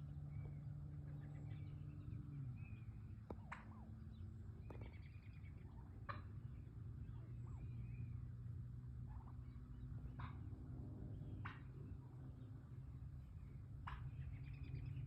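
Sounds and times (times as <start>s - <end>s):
low hum: 0.0s - 15.0s
turkey clucks and purrs: 0.3s - 15.0s.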